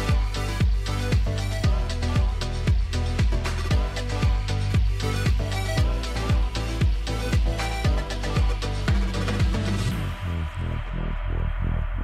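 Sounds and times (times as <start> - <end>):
steady kick drum: 0.0 - 11.0
electronic dance music: 0.0 - 12.0.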